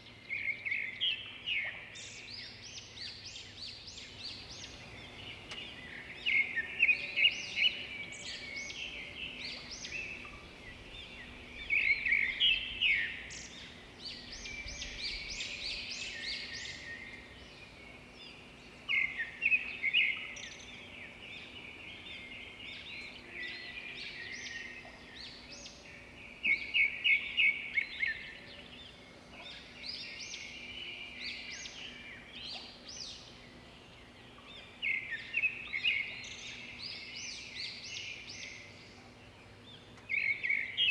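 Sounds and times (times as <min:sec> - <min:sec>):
wild birds chirping: 0:00.0 - 0:40.9.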